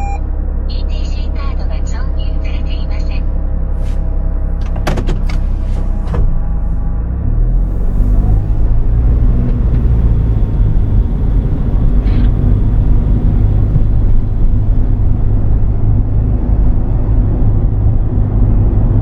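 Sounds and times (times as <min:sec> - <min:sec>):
engine and road noise rumble: 0:03.6 - 0:19.0.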